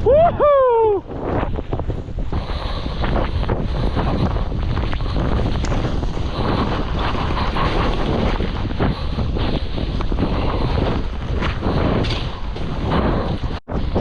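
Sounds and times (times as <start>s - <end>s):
wind buffeting microphone: 0.0s - 14.0s
skis scraping through snow: 1.2s - 14.0s.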